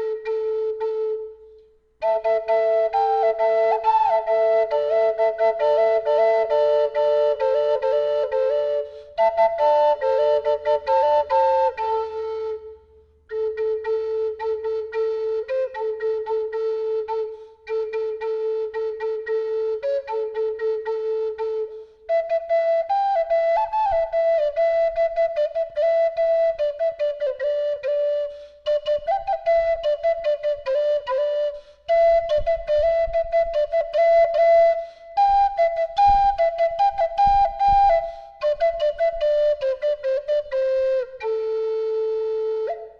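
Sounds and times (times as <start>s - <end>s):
drone flute melody: 0.0s - 42.9s.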